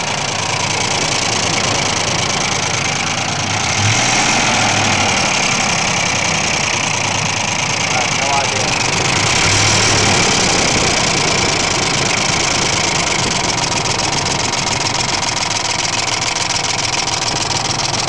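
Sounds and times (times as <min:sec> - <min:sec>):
engine running with rattling tap: 0:00.0 - 0:18.0.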